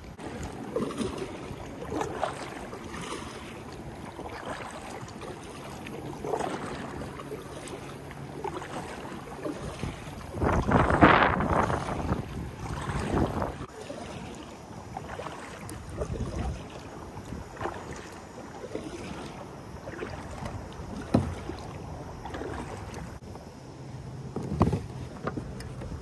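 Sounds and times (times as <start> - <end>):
water splashing against a kayak: 0.0 - 26.0.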